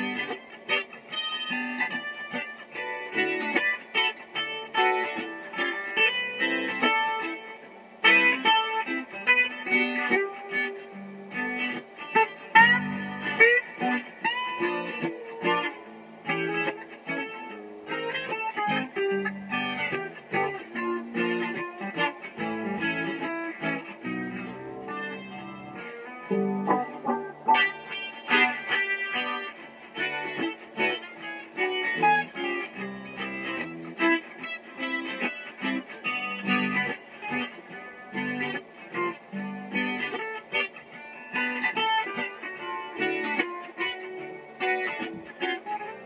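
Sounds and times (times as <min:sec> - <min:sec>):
solo guitar playing: 0:00.0 - 0:46.0.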